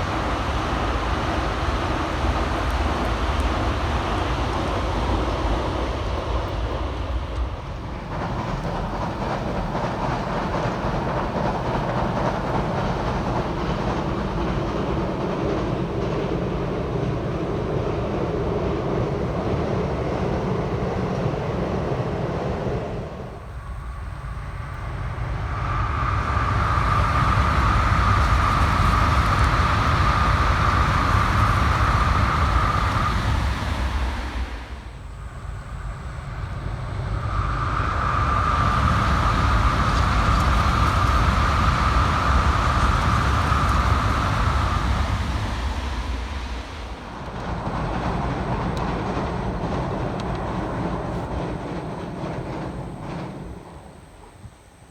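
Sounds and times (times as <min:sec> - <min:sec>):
bullet train rushing and rumbling: 0:00.0 - 0:54.9
steady high whine: 0:00.0 - 0:54.9.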